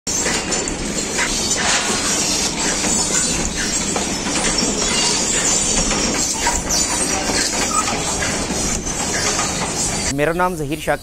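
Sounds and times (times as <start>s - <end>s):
oil presses clattering: 0.1s - 10.1s.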